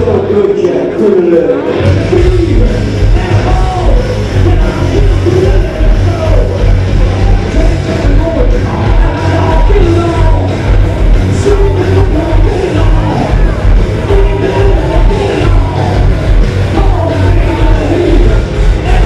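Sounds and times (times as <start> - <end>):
bass: 0.0 - 19.0
drums: 0.0 - 19.0
electric guitars: 0.0 - 19.0.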